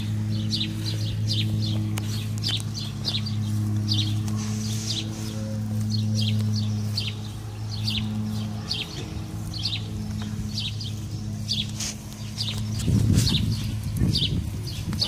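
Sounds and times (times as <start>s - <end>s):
low mechanical hum: 0.0s - 15.0s
small bird chirping: 0.0s - 15.0s.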